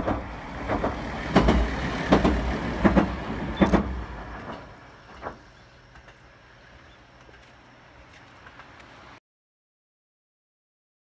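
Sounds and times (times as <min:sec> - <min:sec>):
train wheels knocking over rail joints: 0:00.0 - 0:09.0
low engine rumble: 0:00.0 - 0:09.2.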